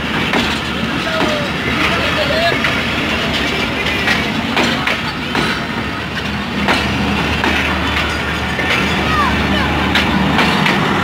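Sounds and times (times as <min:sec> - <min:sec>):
passenger coaches rumbling: 0:00.0 - 0:11.0
wheels clicking over rail joints: 0:00.0 - 0:11.0.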